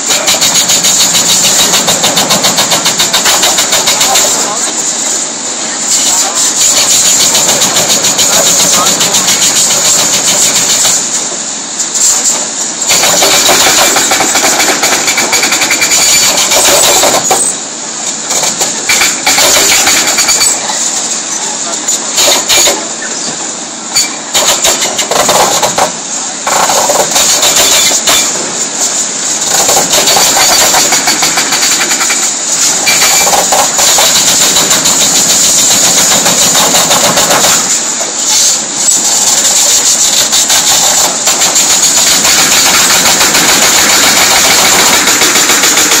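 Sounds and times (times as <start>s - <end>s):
hydraulic breaker hammering concrete: 0.0s - 4.9s, 6.0s - 11.4s, 12.3s - 20.9s, 22.1s - 22.9s, 24.0s - 38.5s, 39.2s - 46.0s
diesel engines running: 0.0s - 46.0s.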